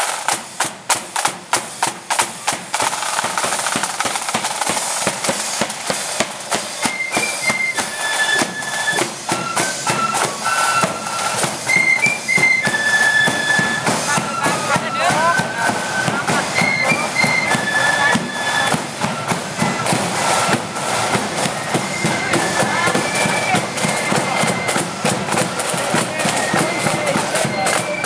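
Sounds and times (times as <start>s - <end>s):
drums beating march rhythm: 0.0s - 28.0s
flutes playing tune: 2.4s - 28.0s.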